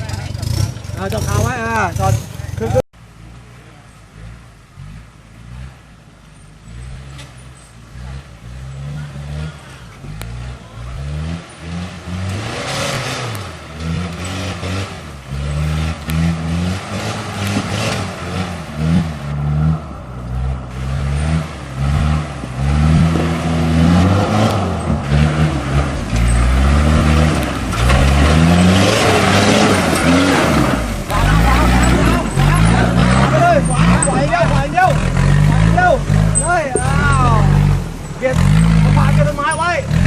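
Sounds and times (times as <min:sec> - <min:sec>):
off-road vehicle engine revving: 0:00.0 - 0:40.0.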